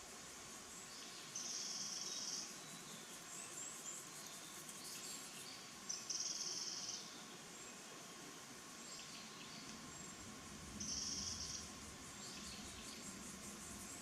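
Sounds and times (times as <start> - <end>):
songbird trill: 0.7 - 7.9, 8.8 - 14.0.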